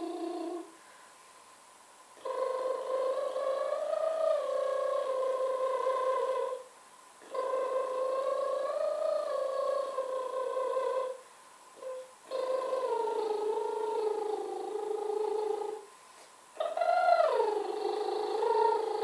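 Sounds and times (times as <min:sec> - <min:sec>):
long steady pitched tones: 0:00.0 - 0:01.0, 0:02.2 - 0:15.9, 0:16.6 - 0:19.0.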